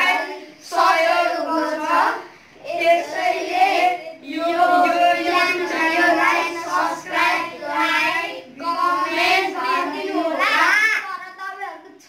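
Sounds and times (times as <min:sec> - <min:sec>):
boys singing together: 0:00.0 - 0:10.7.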